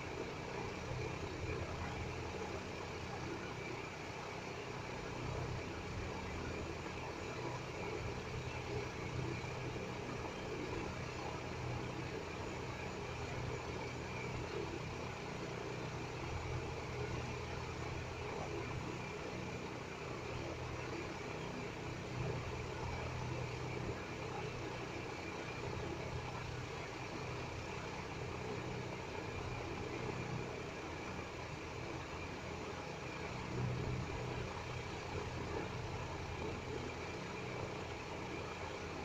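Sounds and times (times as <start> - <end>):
steady low hum with hiss: 0.0 - 39.0.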